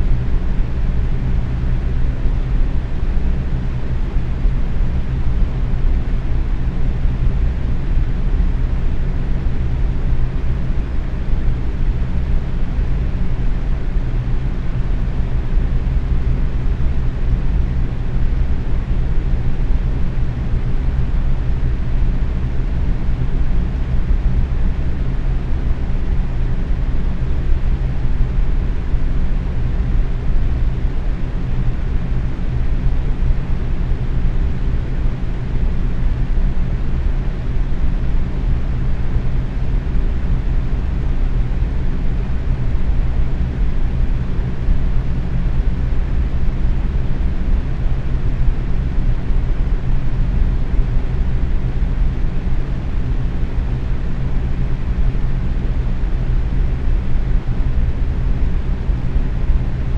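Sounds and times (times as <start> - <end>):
box fan running: 0.0 - 59.9.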